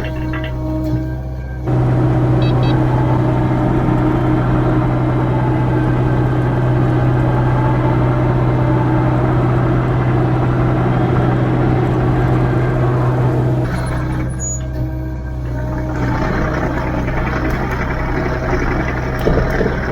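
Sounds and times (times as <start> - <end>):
diesel engine running steadily: 0.0 - 19.9.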